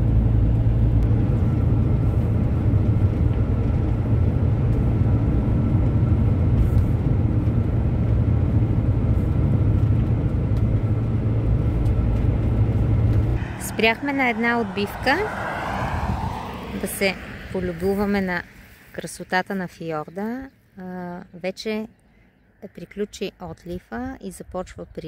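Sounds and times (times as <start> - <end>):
camper van engine drone: 0.0 - 23.7
road noise: 0.0 - 25.0.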